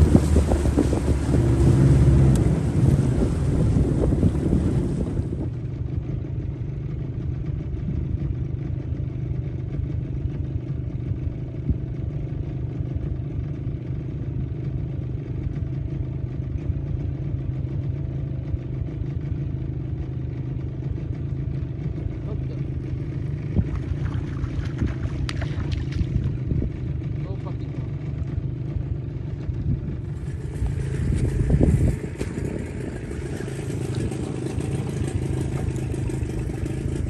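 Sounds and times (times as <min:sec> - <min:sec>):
boat motor humming: 0:00.0 - 0:37.0.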